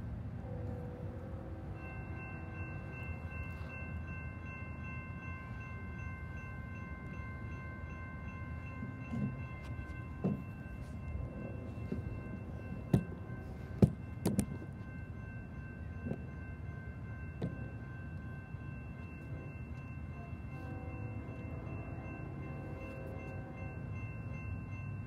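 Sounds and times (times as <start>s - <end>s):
crossing warning bells ringing: 0.0s - 25.0s
train rumble: 0.0s - 25.0s.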